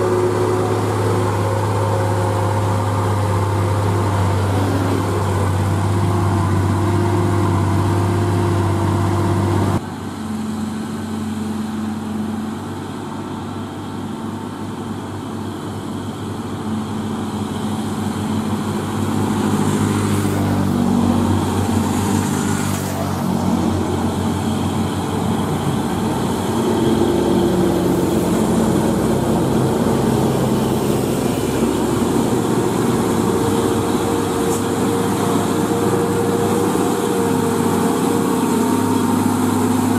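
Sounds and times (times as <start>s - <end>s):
truck approaching changing gears: 0.0s - 9.8s, 10.9s - 39.9s
truck diesel engine idling: 0.0s - 39.9s.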